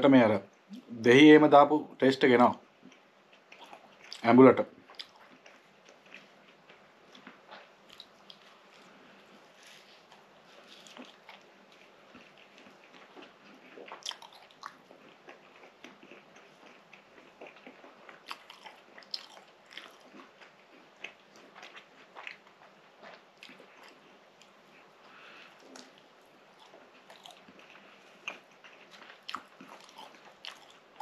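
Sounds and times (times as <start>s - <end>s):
chewing with wet mouth clicks: 2.8s - 31.0s.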